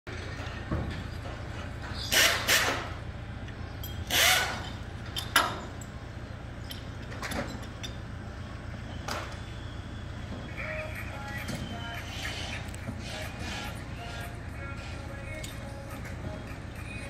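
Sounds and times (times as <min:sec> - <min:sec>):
low engine rumble: 0:00.1 - 0:17.0.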